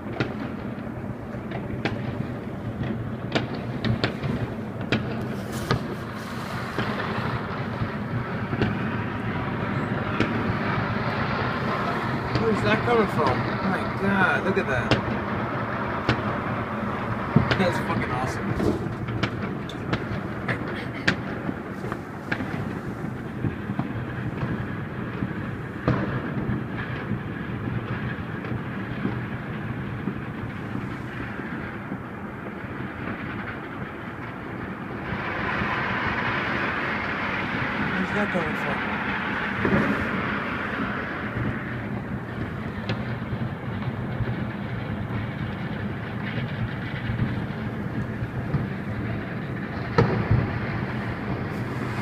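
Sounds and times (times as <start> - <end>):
distant fireworks rumble: 0.0 - 52.0
sharp firecracker bangs: 0.0 - 52.0.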